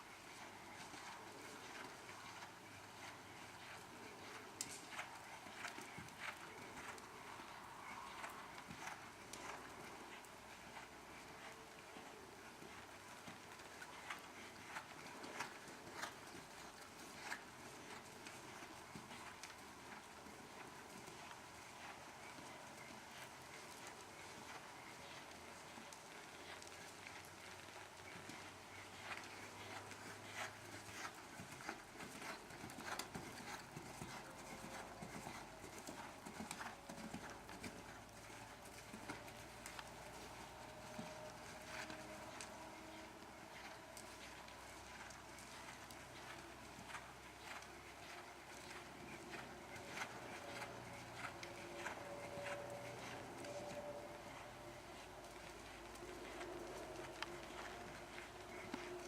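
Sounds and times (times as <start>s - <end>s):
horse hoofbeats clicking: 0.7s - 59.0s.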